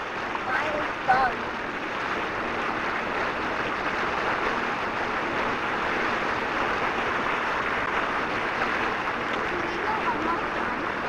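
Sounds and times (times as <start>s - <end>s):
water and wind rushing: 0.0s - 11.0s.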